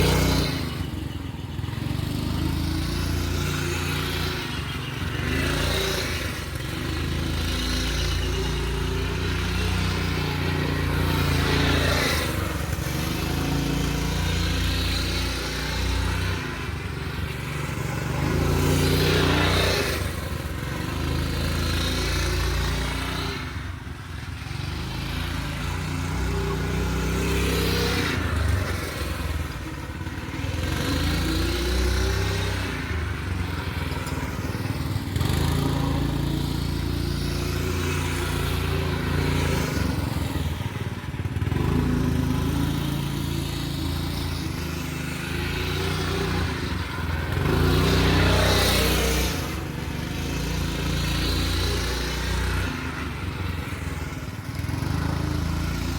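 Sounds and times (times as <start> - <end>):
single-cylinder engine revving: 0.0 - 55.9.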